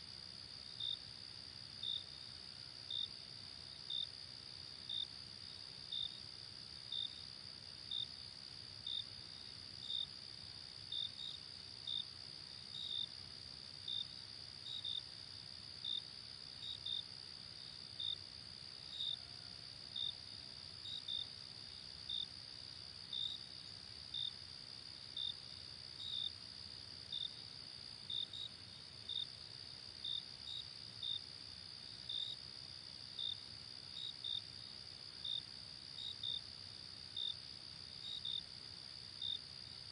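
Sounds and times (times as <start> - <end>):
cricket chirping: 0.0 - 39.9
night insect chorus trilling: 0.0 - 39.9.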